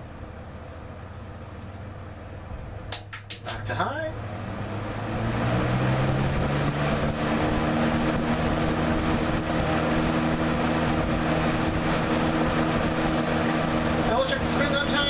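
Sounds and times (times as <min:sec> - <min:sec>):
box fan motor hum: 0:00.0 - 0:15.0
rush of air from fan: 0:00.0 - 0:15.0.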